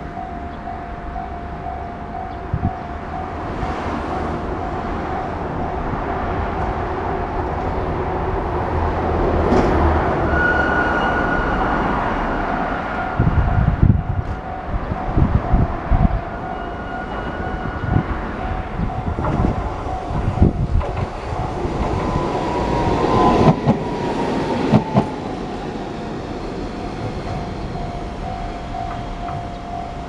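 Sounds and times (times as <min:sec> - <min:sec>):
train passing: 0:00.0 - 0:30.0.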